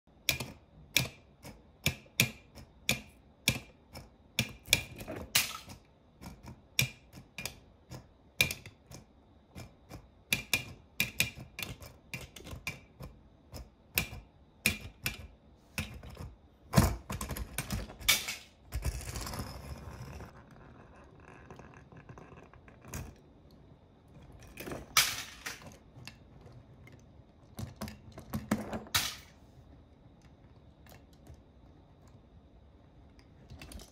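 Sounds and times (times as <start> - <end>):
metal toy cars clacking on floor: 0.3 - 23.2, 24.3 - 29.4.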